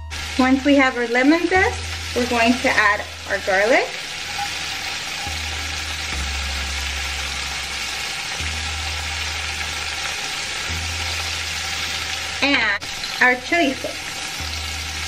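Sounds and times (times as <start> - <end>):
oil sizzling in a frying pan: 0.0 - 15.0.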